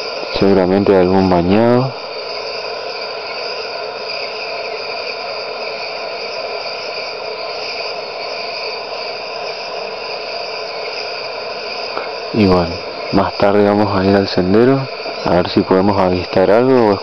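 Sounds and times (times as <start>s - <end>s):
frogs calling: 0.0s - 17.0s
insects calling: 0.0s - 17.0s.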